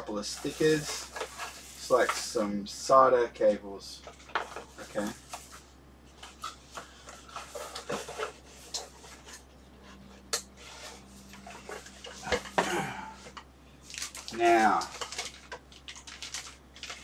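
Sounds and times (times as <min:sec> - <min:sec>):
cardboard rustling and scraping: 0:00.2 - 0:02.4, 0:04.1 - 0:17.0.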